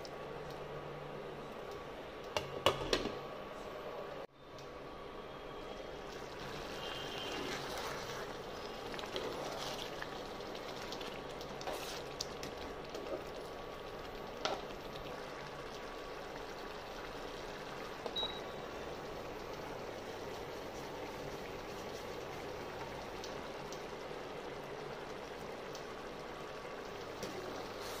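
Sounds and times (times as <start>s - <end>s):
curry bubbling in a pot: 5.6s - 28.0s.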